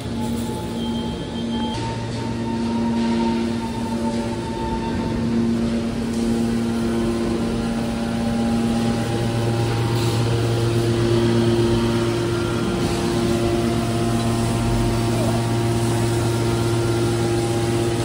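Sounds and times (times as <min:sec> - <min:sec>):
hydraulic pump motor droning: 0:00.0 - 0:18.0.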